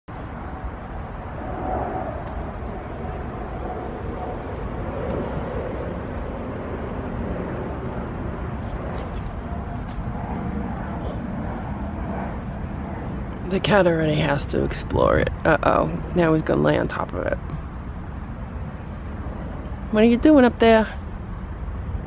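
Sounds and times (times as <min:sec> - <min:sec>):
crickets chirping: 0:00.1 - 0:22.0
low background rumble: 0:00.2 - 0:22.0.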